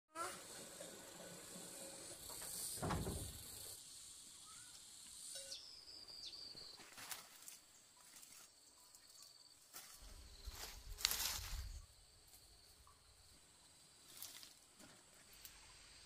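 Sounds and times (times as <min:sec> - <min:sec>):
high insect drone: 0:00.2 - 0:16.0.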